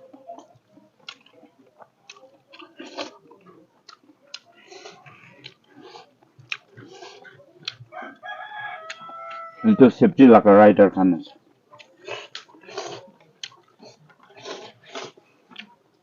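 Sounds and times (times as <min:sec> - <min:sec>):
chewing with mouth clicks: 0:00.1 - 0:08.0, 0:08.6 - 0:09.5, 0:11.7 - 0:15.8.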